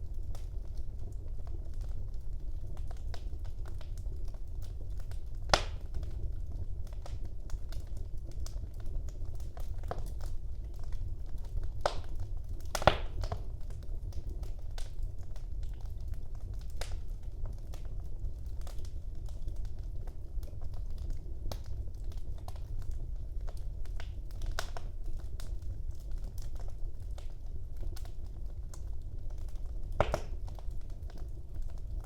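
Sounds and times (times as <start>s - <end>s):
fire crackles and pops: 0.0s - 32.0s.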